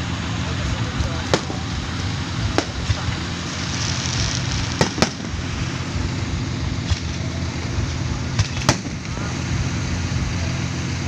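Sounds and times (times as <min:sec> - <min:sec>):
fireworks bangs: 0:00.0 - 0:10.8
continuous noisy background: 0:00.0 - 0:11.0.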